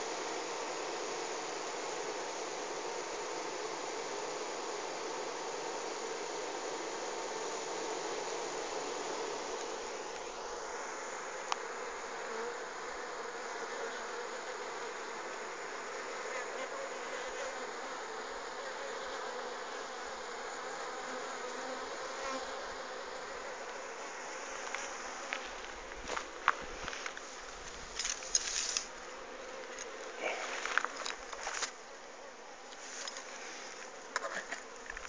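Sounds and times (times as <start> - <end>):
bee swarm buzzing: 0.0 - 35.0.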